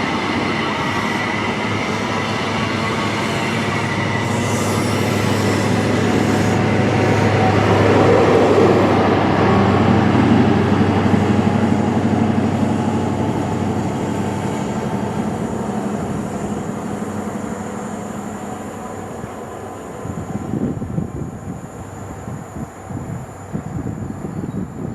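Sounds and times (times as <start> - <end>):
train passing at speed: 0.0 - 24.9.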